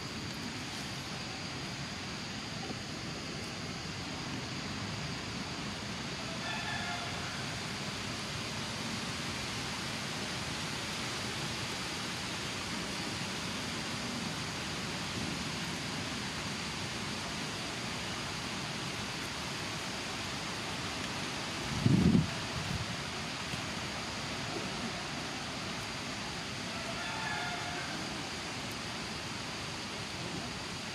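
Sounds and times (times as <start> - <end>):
outdoor background hiss: 0.0 - 30.9.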